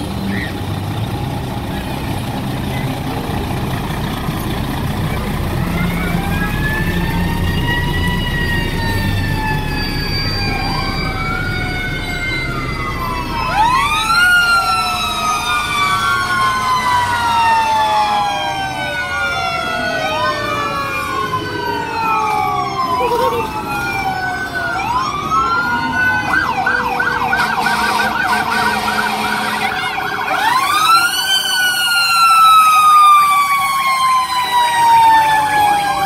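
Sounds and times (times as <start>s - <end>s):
fire truck sirens wailing: 0.0s - 36.0s
truck engines running: 0.0s - 36.0s.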